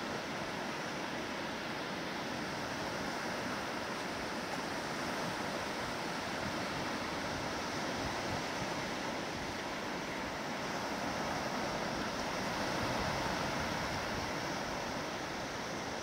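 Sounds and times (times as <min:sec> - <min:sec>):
small waves washing on beach: 0:00.0 - 0:16.0.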